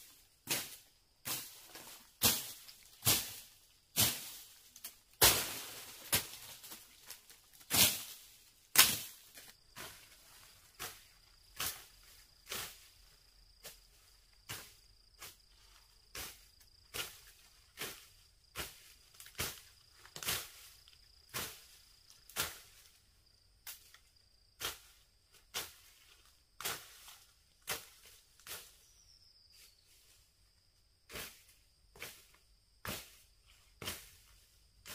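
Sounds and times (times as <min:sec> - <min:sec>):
high insect trill: 0:00.0 - 0:34.9.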